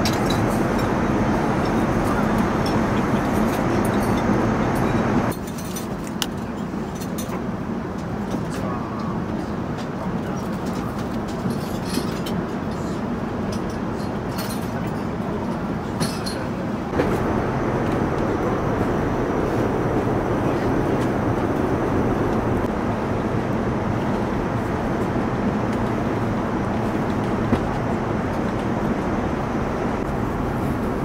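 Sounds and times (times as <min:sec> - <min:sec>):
airplane cabin engine rushing: 0:00.0 - 0:05.8, 0:06.8 - 0:31.0.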